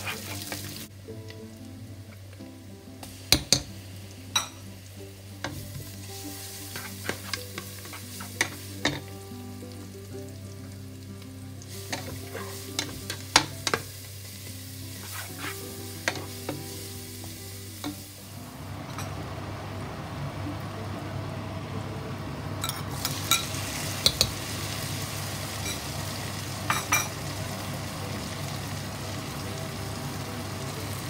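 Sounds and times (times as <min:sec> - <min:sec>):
onions sizzling in oil: 0:00.0 - 0:31.0.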